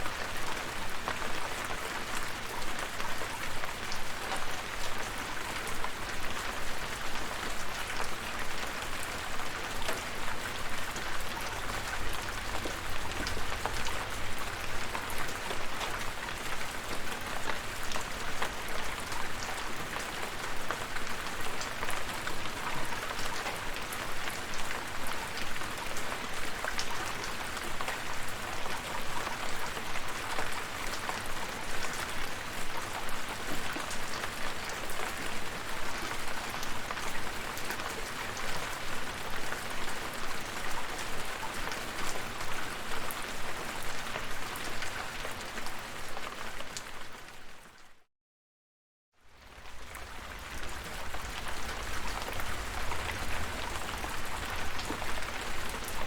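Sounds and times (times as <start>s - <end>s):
steady rain falling: 0.0s - 48.0s, 49.2s - 56.0s.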